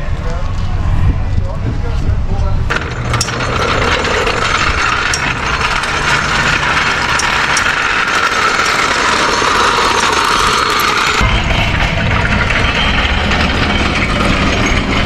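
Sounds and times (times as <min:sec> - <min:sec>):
mechanical tire shop noise: 0:00.0 - 0:15.0.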